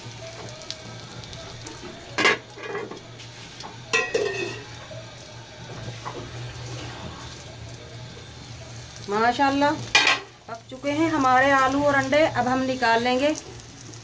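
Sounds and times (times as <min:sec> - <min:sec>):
faint sizzling: 0:00.0 - 0:14.0.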